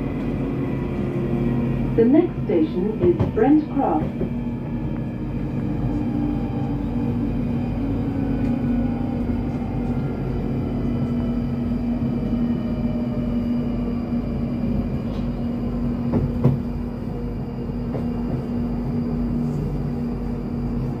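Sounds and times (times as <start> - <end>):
electric train hum: 0.0 - 21.0.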